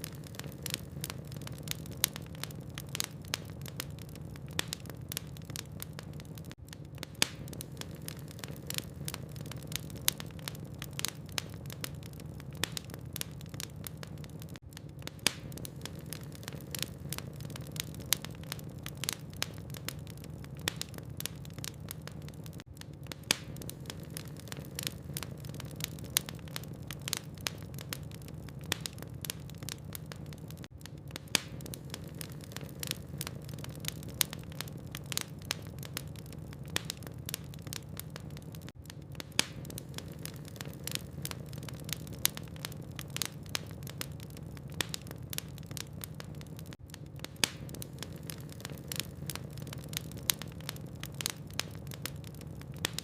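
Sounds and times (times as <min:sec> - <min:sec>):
low rumble of flames: 0:00.0 - 0:53.0
wood fire crackling: 0:00.0 - 0:53.0.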